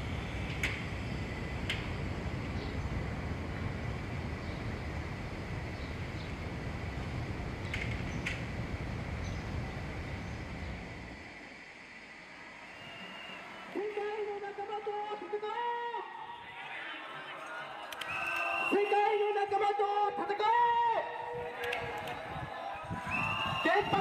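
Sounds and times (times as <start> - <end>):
low street rumble: 0.0 - 24.0.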